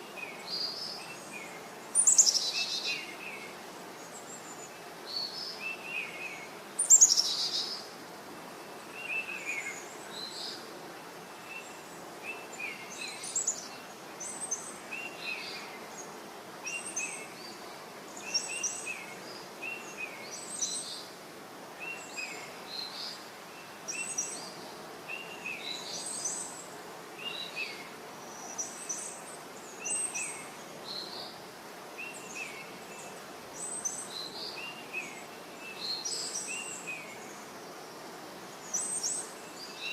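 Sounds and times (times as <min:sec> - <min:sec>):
background hiss: 0:00.0 - 0:39.9.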